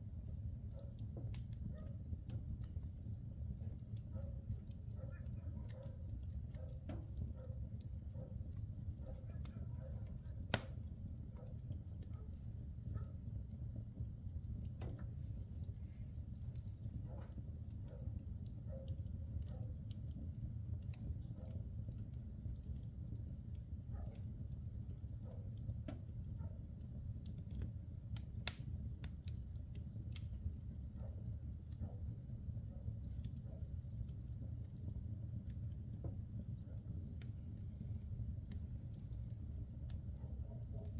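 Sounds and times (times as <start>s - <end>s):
fire crackles and pops: 0.0s - 40.9s
low rumble of flames: 0.0s - 40.9s.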